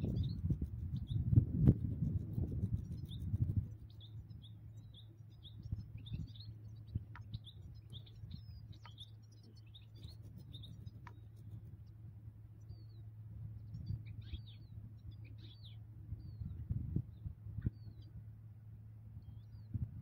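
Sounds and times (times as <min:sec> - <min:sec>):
finches twittering: 0:00.0 - 0:12.0, 0:12.6 - 0:16.6
low steady hum: 0:00.0 - 0:20.0.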